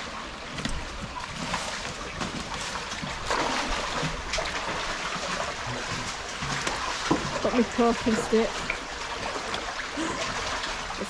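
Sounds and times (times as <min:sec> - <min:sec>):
brook water running: 0:00.0 - 0:11.0
footsteps splashing in stream: 0:00.0 - 0:11.0.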